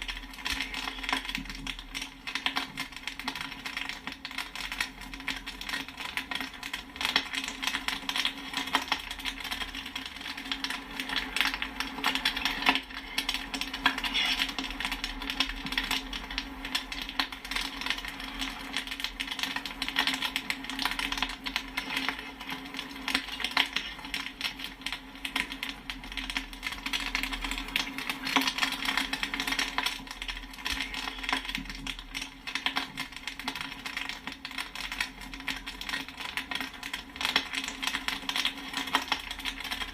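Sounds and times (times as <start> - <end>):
popcorn popping: 0.0 - 39.9.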